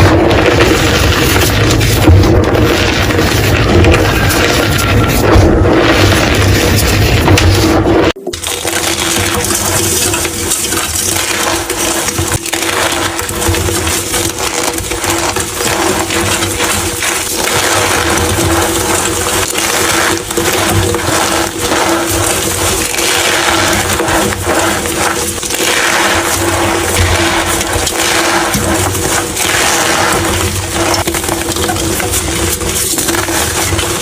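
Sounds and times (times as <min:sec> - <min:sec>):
chalk being crushed: 0:00.0 - 0:34.0.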